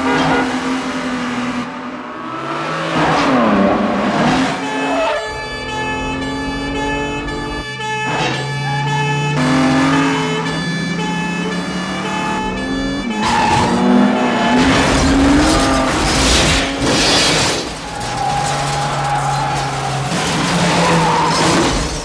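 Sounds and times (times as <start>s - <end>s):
tyres skidding and scraping: 0.0s - 22.0s.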